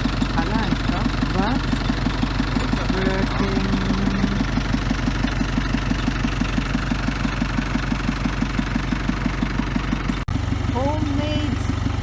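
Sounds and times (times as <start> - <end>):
machine engine running: 0.0 - 12.0.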